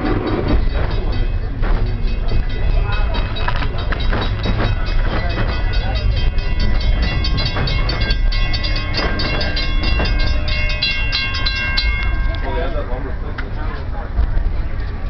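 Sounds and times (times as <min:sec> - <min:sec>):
train car rumbling: 0:00.0 - 0:15.0
wheels clicking on rails: 0:00.0 - 0:15.0.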